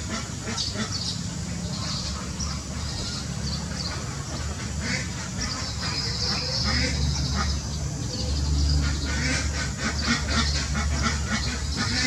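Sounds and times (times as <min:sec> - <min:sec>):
steady low hum: 0:00.0 - 0:12.0
birds chirping: 0:00.1 - 0:12.0.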